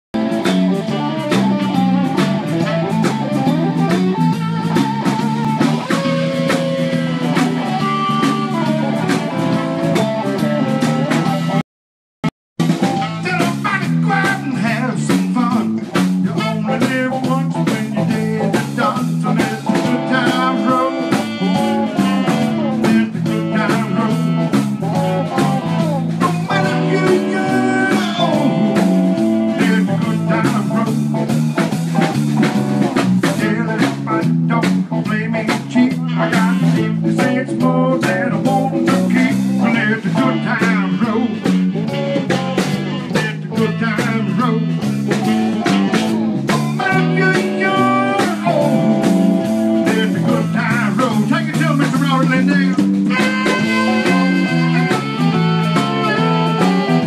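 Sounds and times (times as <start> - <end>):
drum kit: 0.1 - 11.6, 12.6 - 57.0
walking bass line: 0.1 - 11.6, 12.6 - 57.0
electric guitar: 0.2 - 11.6, 12.6 - 57.0
saxophone: 0.2 - 11.6, 12.6 - 57.0.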